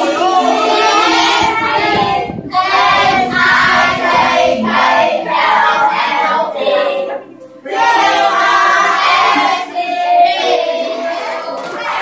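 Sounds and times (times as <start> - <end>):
young female voices singing: 0.0 - 12.0.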